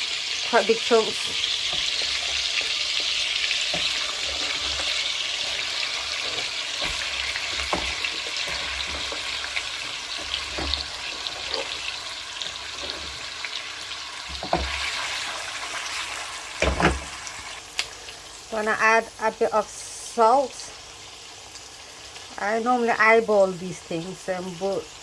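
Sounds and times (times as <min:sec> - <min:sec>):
oil sizzling in a frying pan: 0:00.0 - 0:25.0.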